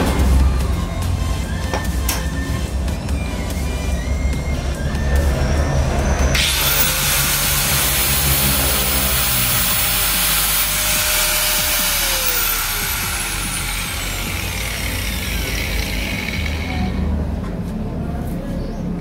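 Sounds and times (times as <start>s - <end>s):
angle grinder whining: 0.0s - 17.2s
grinder motor winding down: 0.0s - 17.2s.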